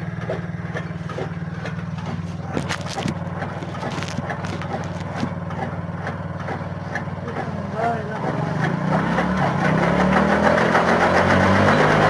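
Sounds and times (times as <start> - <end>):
motorcycle engine running: 0.0 - 12.0
chaff cutter knocking and chopping: 0.2 - 12.0.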